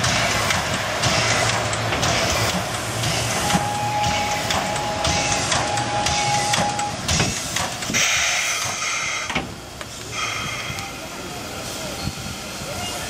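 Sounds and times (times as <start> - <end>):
steam hissing: 0.0 - 13.0
steam locomotive knocking: 0.0 - 13.0.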